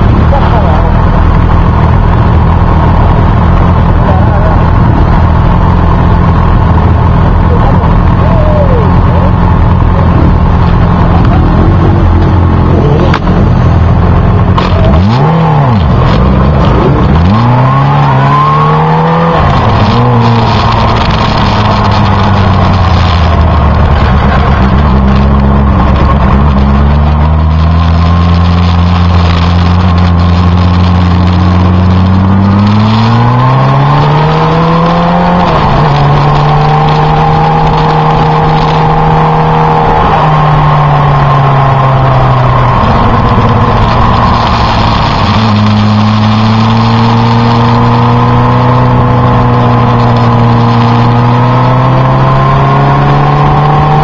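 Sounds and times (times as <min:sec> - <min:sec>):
motorcycles accelerating: 0:00.0 - 0:54.0.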